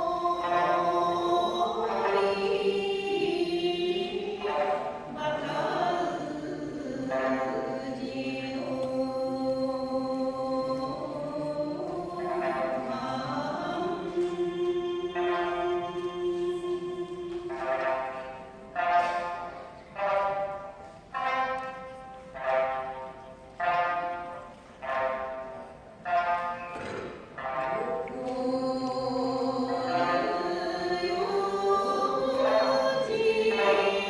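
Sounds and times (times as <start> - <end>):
group singing in unison: 0.0 - 20.7, 26.2 - 34.0
plucked lute accompaniment: 0.0 - 34.0.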